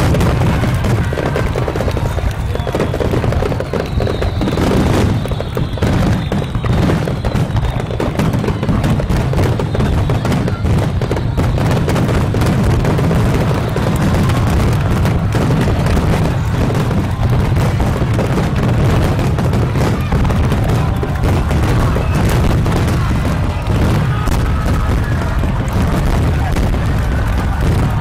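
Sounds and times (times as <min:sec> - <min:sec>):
firework booms and crackling: 0:00.0 - 0:28.0.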